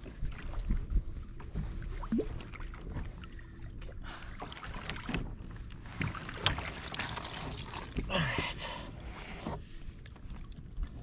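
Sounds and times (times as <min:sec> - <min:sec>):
water moving around kayak: 0:00.0 - 0:11.0.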